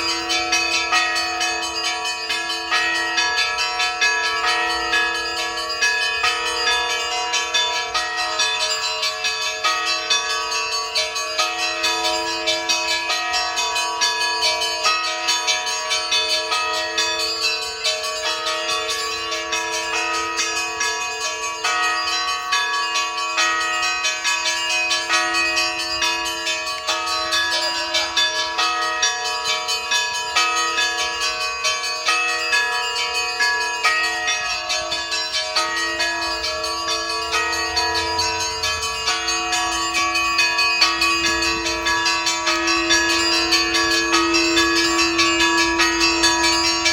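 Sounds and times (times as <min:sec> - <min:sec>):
large bells humming ring: 0:00.0 - 0:46.9
small bells struck rhythmically: 0:00.0 - 0:46.9.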